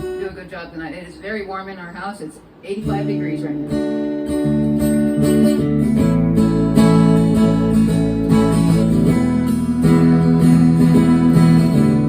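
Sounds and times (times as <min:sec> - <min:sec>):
acoustic guitar strummed: 0:00.0 - 0:00.7, 0:02.5 - 0:12.0.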